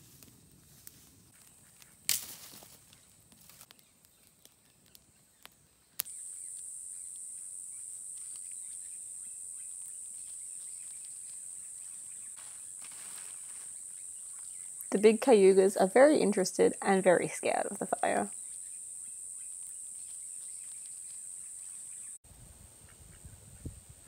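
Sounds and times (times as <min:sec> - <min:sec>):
cicadas droning: 0:00.7 - 0:23.2.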